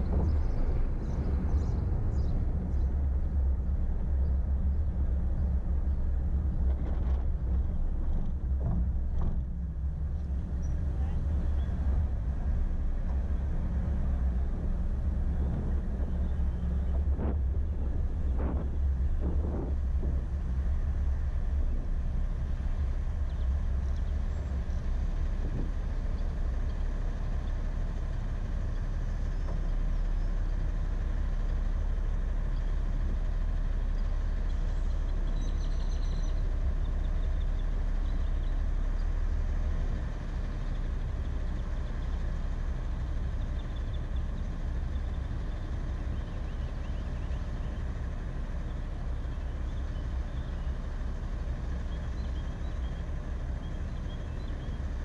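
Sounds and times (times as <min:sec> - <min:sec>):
car engine rumble from inside: 0:00.0 - 0:55.0.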